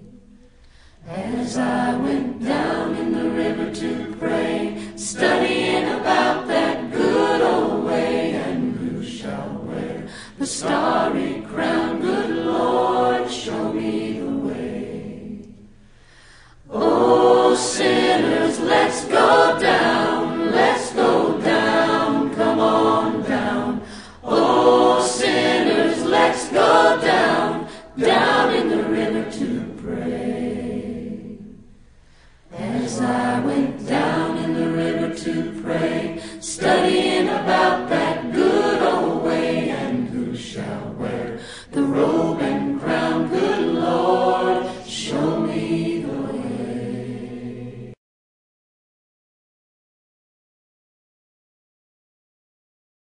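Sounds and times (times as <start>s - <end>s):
a cappella choir singing: 0.0s - 48.0s.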